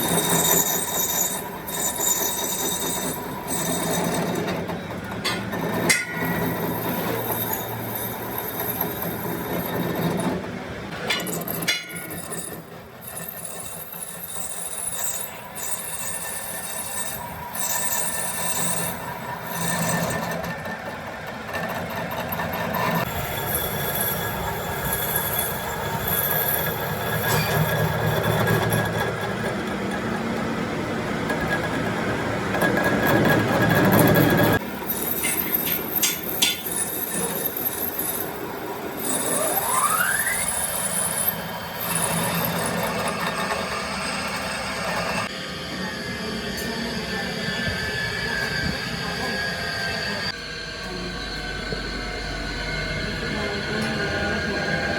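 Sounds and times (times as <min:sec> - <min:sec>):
tool screeching against metal: 0:00.0 - 0:30.5, 0:31.3 - 0:51.8.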